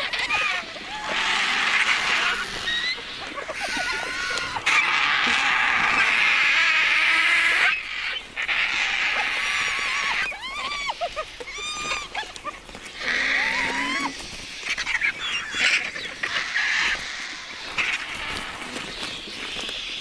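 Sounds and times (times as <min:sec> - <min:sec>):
vultures screeching: 0:00.0 - 0:20.0
vultures squealing calls: 0:00.0 - 0:20.0.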